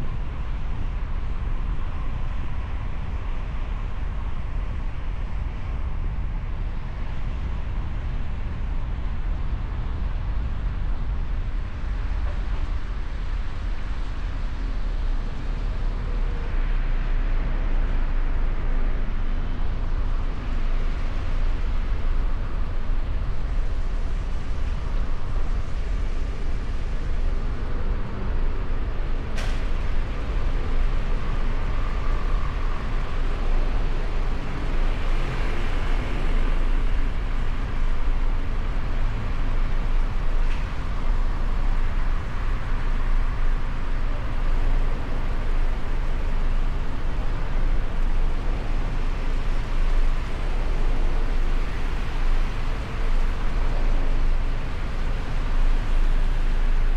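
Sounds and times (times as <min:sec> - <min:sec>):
deep rumble: 0:00.0 - 0:56.9
road and traffic noise: 0:00.0 - 0:56.9.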